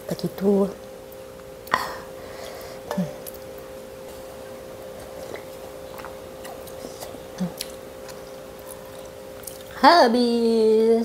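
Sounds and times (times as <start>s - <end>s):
steady hum: 0.0s - 11.0s
soft eating sounds: 0.7s - 9.9s.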